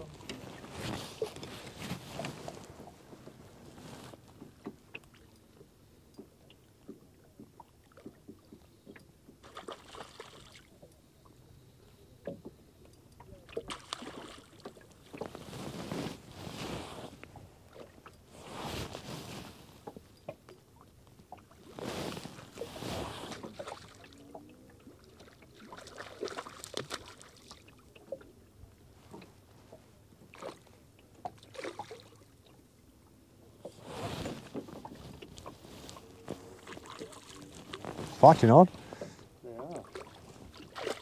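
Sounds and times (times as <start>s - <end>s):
water lapping against boat hull: 0.0s - 41.0s.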